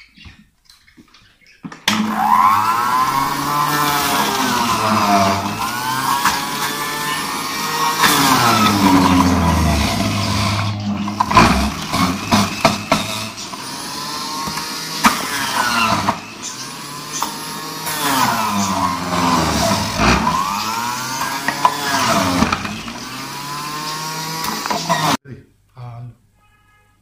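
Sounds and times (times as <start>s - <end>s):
juicer motor running: 1.8s - 25.2s.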